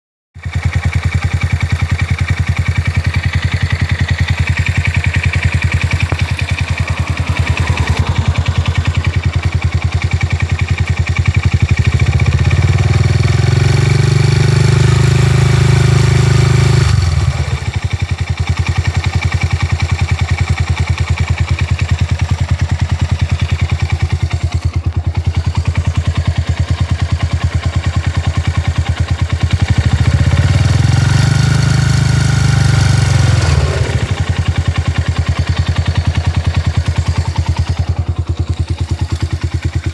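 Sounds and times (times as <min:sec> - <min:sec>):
motorcycle engine idling and revving: 0:00.4 - 0:39.9.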